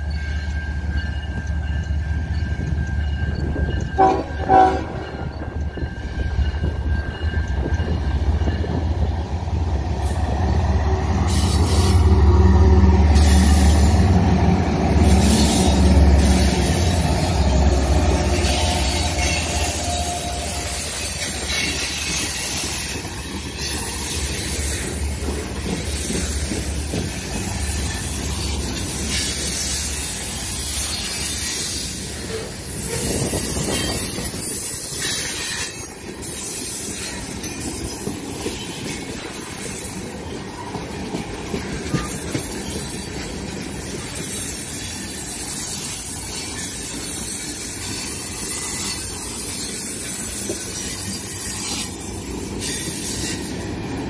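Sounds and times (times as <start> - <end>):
freight train wheels on rails: 0.0 - 54.0
low train rumble: 0.0 - 54.0.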